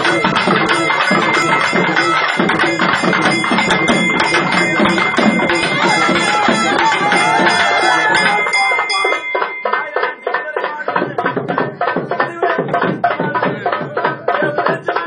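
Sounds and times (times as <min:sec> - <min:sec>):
high pitched melody or voices: 0:00.0 - 0:12.6
quick steady drumming: 0:00.0 - 0:15.0.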